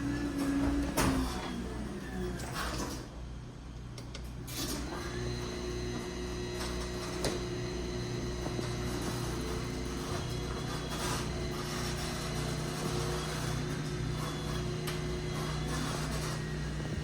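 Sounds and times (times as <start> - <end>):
garage door opener motor hum: 0.0 - 17.0.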